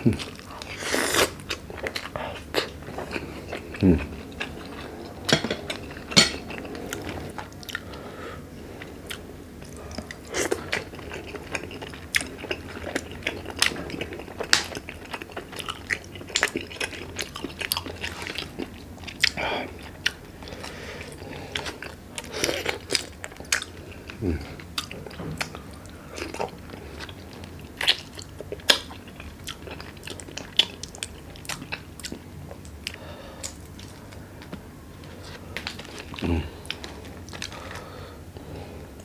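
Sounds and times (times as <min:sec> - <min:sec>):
person chewing prawns: 0:00.0 - 0:08.0, 0:08.7 - 0:39.0.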